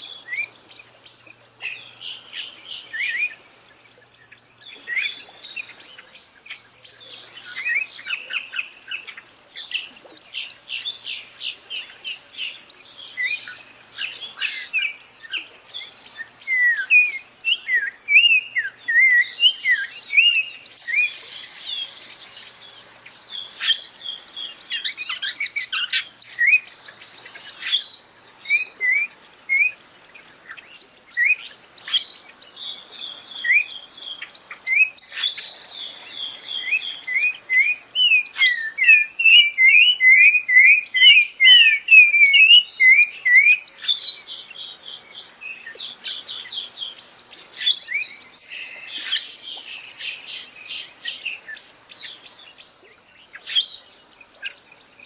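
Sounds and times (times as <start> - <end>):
songbirds chirping and whistling: 0.0 - 55.0.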